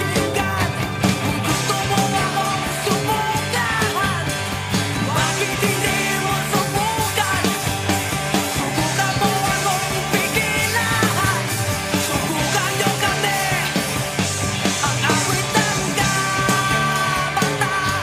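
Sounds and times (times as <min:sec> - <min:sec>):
rock song with bass line: 0:00.0 - 0:18.0.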